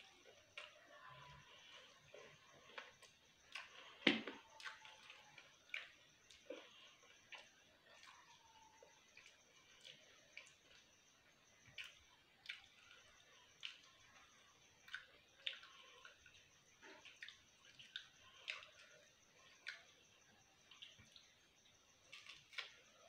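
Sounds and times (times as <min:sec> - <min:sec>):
person chewing food: 0:00.0 - 0:21.4, 0:22.0 - 0:23.0
faint high-pitched whine: 0:00.0 - 0:23.0.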